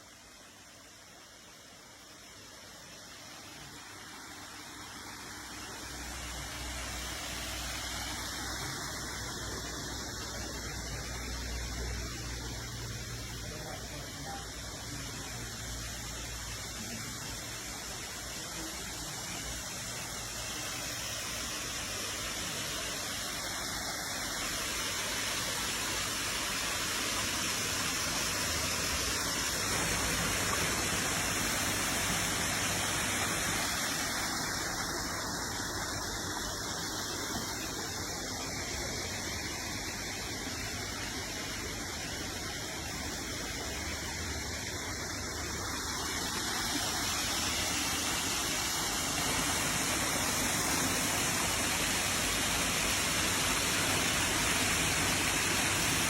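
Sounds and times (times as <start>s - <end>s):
waterfall rushing: 3.6s - 56.0s.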